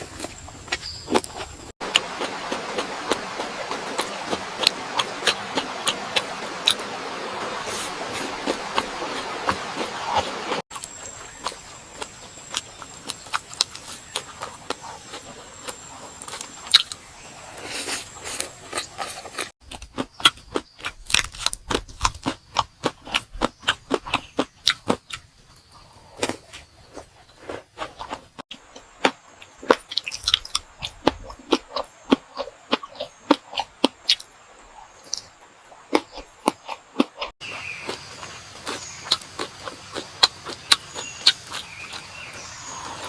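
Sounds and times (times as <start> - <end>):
person chewing crunchy food: 0.0 - 25.3, 25.9 - 43.0.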